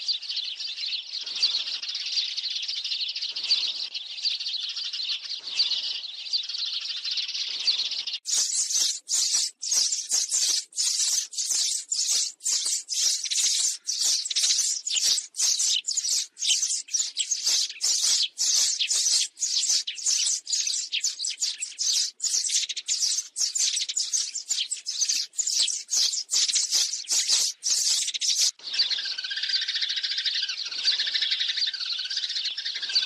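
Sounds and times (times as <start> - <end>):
sparrows chirping: 0.0 - 33.0.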